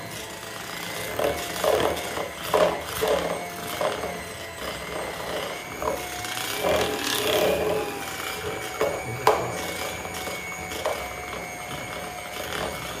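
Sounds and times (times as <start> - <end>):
electric mixer motor whine: 0.0 - 13.0.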